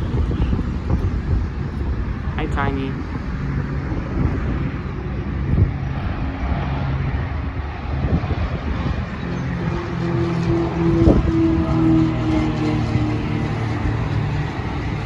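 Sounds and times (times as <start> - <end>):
high engine tone: 0.0 - 15.0
jet engine rush: 0.0 - 15.0.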